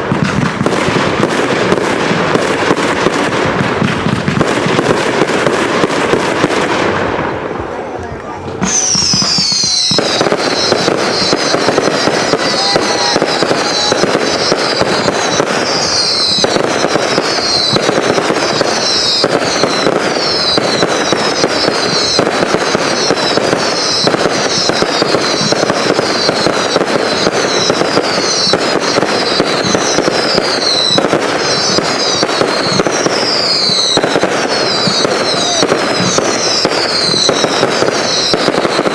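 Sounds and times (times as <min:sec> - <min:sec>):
fireworks crackling barrage: 0:00.0 - 0:38.9
whistling fireworks: 0:00.0 - 0:38.9.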